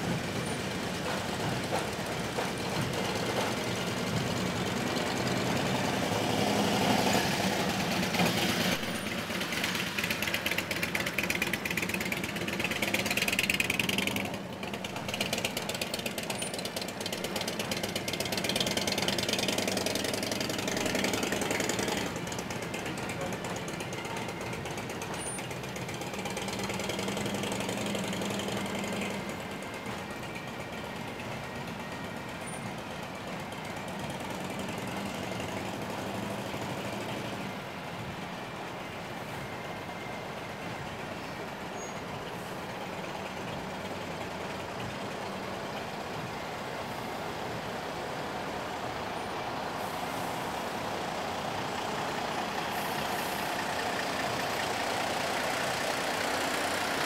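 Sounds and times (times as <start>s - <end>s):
vehicles driving slowly past: 0.0s - 57.0s.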